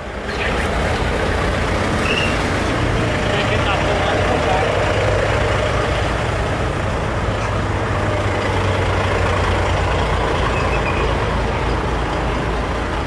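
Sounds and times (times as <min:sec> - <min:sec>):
lorry diesel engine running: 0:00.0 - 0:13.0
traffic noise: 0:00.0 - 0:13.0.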